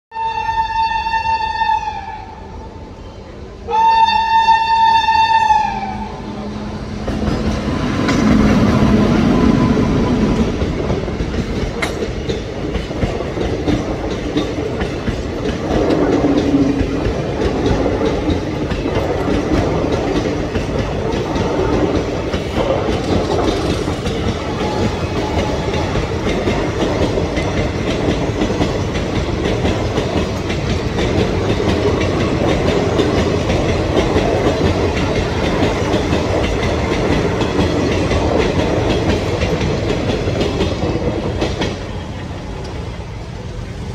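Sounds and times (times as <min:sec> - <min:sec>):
train wheels rumbling on rails: 0:00.1 - 0:43.9
clickety-clack over rail joints: 0:07.0 - 0:43.9.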